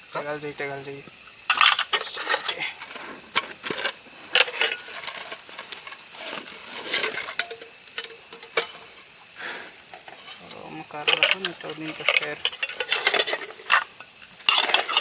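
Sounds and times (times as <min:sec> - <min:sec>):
crickets chirping: 0:00.0 - 0:15.0
rustling and clattering of gear: 0:01.5 - 0:15.0.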